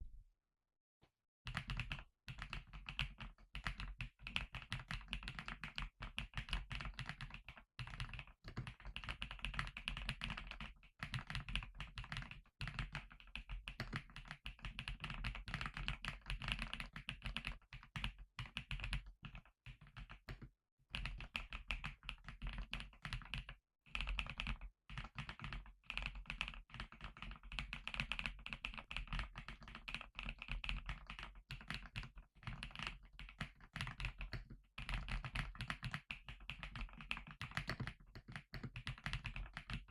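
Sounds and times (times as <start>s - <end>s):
mechanical keyboard typing: 1.6s - 13.0s, 13.8s - 17.7s, 21.0s - 39.9s.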